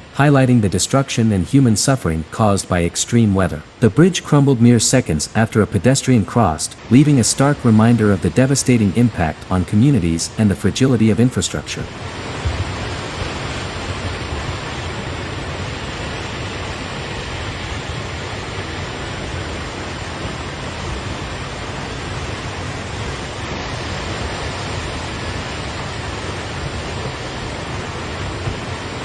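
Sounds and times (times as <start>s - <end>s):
floodwater rushing roar: 0.0s - 29.0s.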